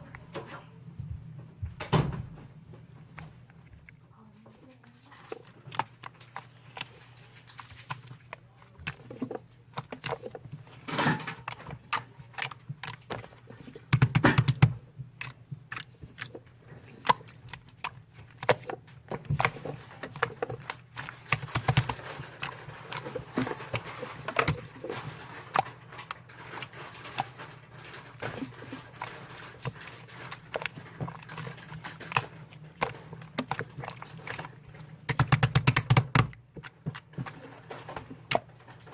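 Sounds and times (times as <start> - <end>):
slime squishing by hand: 0.0 - 38.9.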